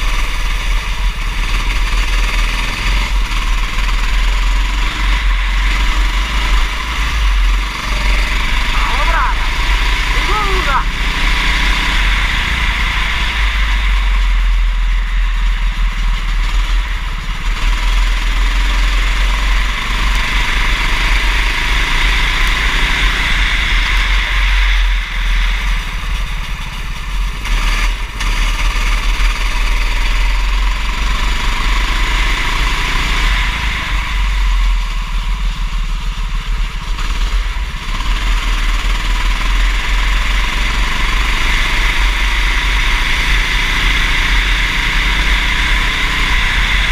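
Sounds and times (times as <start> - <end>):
racing kart engine revving: 0.0 - 46.9.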